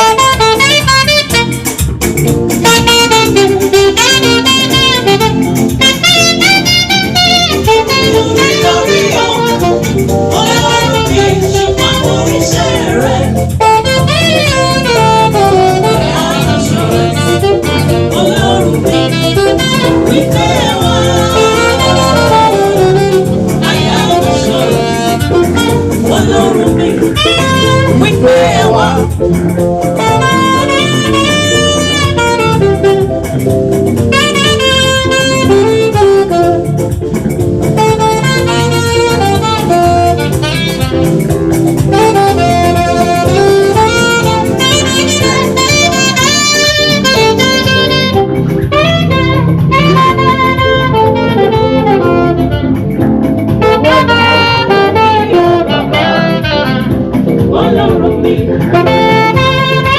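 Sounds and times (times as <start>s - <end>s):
band accompaniment: 0.0s - 59.9s
saxophone melody: 0.0s - 59.9s.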